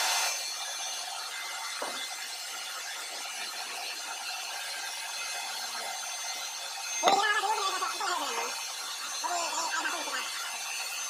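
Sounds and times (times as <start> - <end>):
power tool scratchy hiss: 0.0 - 11.0.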